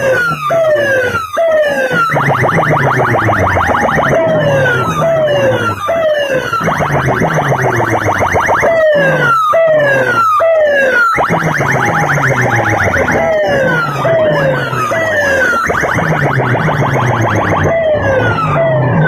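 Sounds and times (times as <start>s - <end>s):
electronic siren-effect music: 0.0s - 19.0s
pulsing bass: 0.0s - 19.0s.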